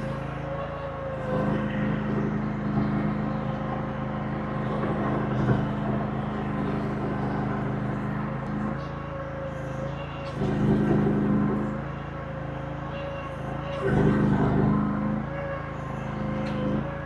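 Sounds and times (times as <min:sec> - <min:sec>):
small loader engine running: 0:00.0 - 0:17.0.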